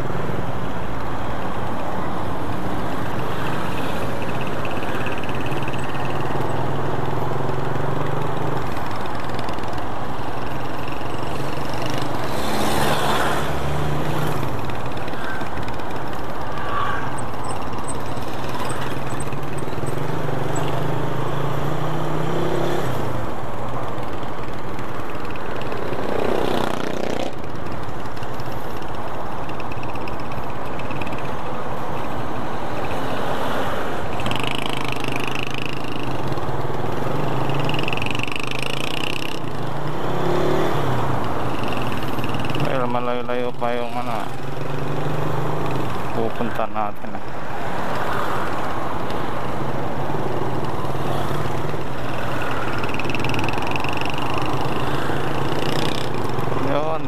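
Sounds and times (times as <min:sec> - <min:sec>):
motorcycle engine hum: 0:00.0 - 0:46.6, 0:47.2 - 0:57.0
vehicles passing: 0:00.0 - 0:57.0
wind and road noise: 0:00.0 - 0:57.0.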